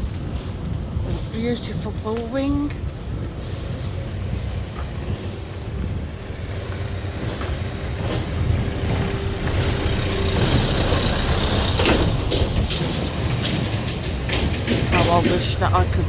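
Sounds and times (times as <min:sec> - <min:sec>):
mobility scooter rumbling: 0:00.0 - 0:16.0.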